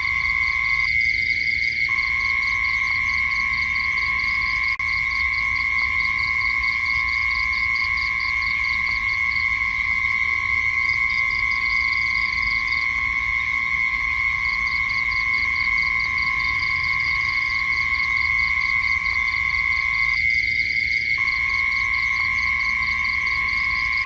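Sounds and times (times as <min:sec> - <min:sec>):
insect chirping: 0:00.0 - 0:24.0
insects droning: 0:00.0 - 0:24.0.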